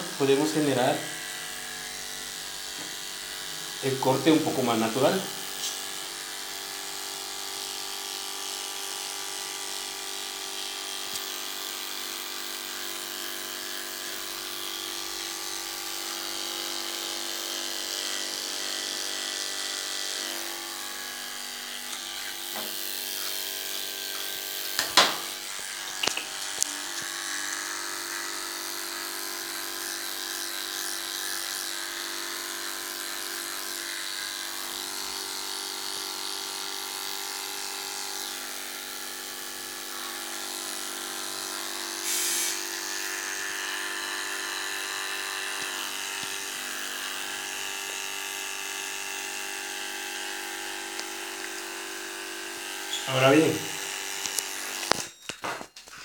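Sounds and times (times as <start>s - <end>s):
electric clipper running: 0.0s - 55.7s.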